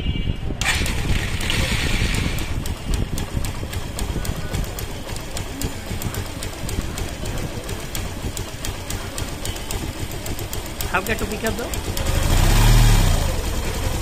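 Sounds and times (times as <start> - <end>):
motorcycle engine idling: 0.2 - 14.0.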